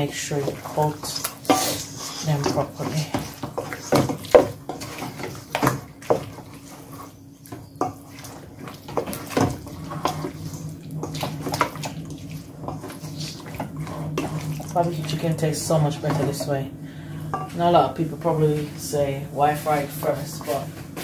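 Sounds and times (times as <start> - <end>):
wet squelching of sauce: 0.0 - 17.7.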